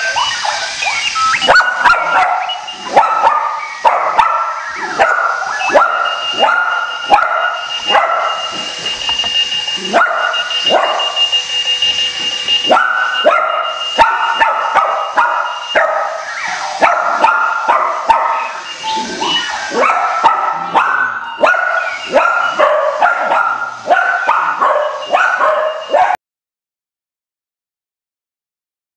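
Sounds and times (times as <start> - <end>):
alarm clock beeps and chirps: 0.0 - 26.2.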